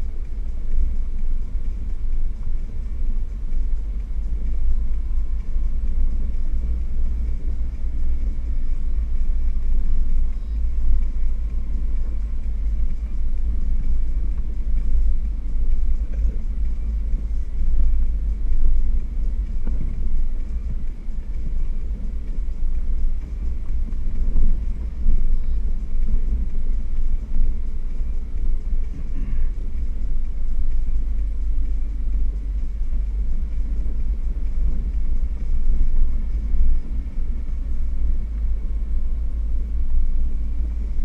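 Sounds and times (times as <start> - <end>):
vehicle engine and tyres rumbling: 0.0 - 41.0.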